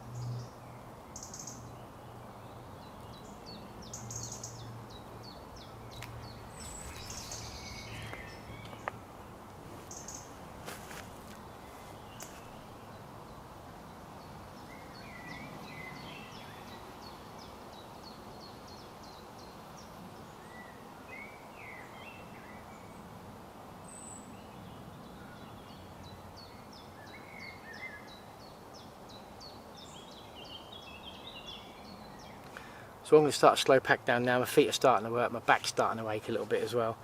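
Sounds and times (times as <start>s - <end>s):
lower bird chirps: 0.0s - 9.0s, 9.8s - 10.4s, 11.4s - 23.1s, 23.8s - 32.8s
steady outdoor hiss: 0.0s - 37.0s.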